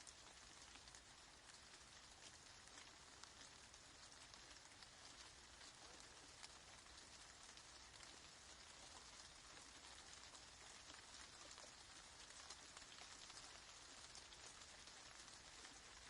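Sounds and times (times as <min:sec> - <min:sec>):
faint steady rain: 0:00.0 - 0:16.0.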